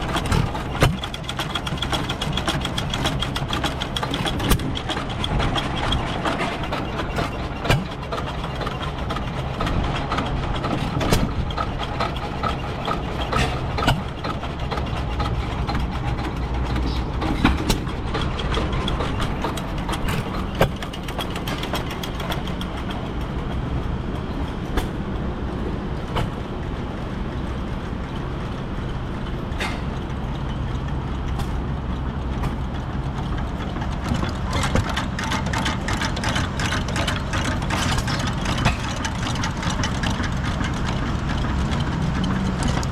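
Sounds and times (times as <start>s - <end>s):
engine humming: 0.0s - 42.9s.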